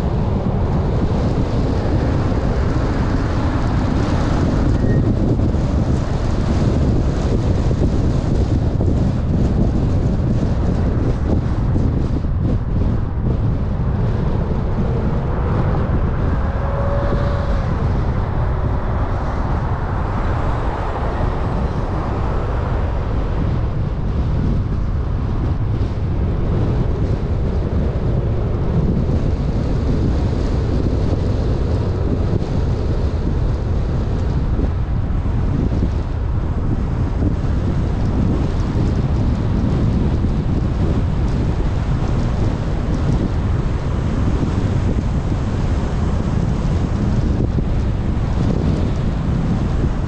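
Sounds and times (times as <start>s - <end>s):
car road noise rumble: 0.0s - 50.0s
wind buffeting microphone: 0.0s - 50.0s.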